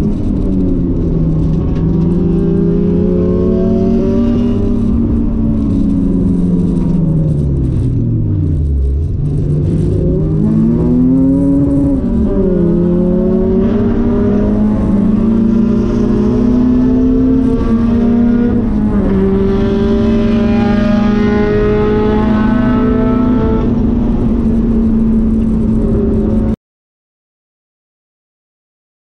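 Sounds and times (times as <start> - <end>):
car engine revving: 0.0 - 26.6.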